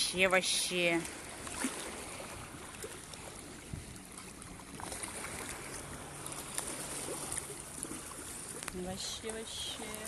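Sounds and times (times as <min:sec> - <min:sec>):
seawater sloshing and lapping: 0:00.0 - 0:10.0
small splashes and clicks: 0:00.9 - 0:10.0.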